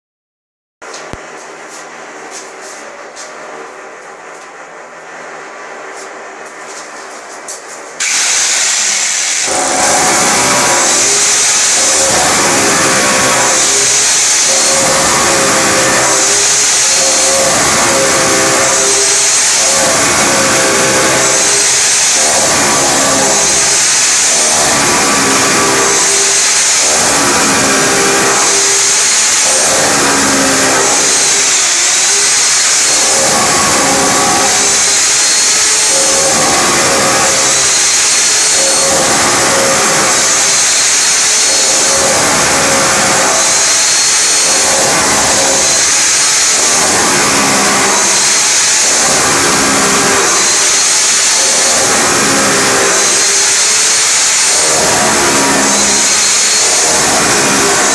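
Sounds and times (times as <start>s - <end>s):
hammer drill drilling into wall: 8.0s - 57.9s.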